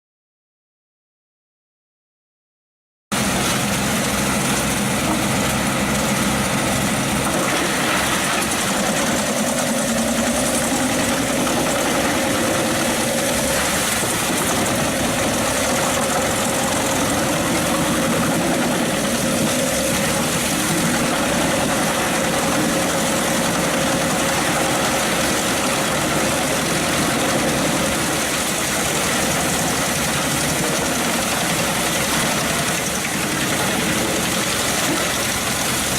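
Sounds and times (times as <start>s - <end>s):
wood chipper diesel engine running: 3.2s - 35.9s.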